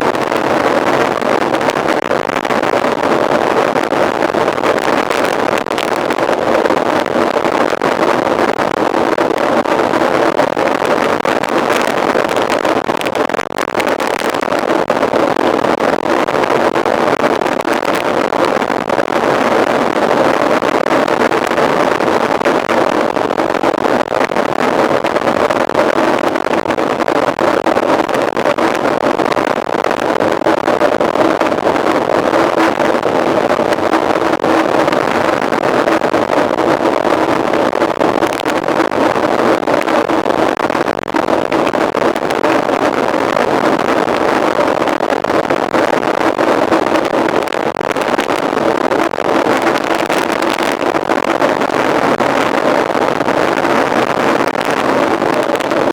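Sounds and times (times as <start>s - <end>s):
wind noise on microphone: 0.0s - 55.9s.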